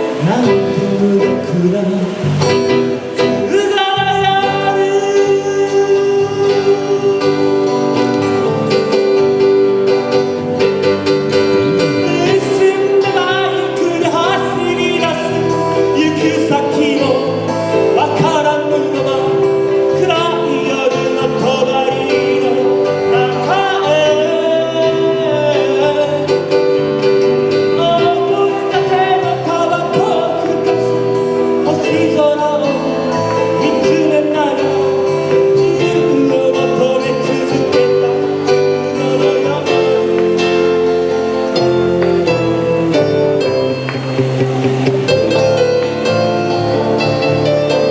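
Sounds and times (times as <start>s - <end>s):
keyboard pop song: 0.0s - 47.9s.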